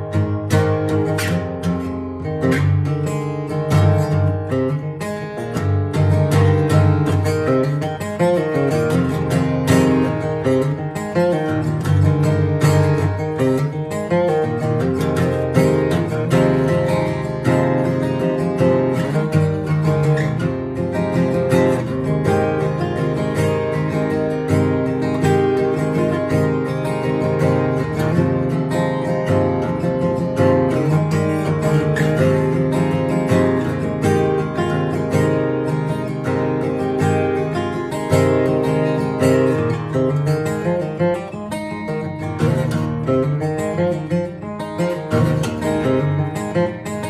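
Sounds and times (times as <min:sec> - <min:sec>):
acoustic guitar fingerpicking: 0:00.0 - 0:47.0.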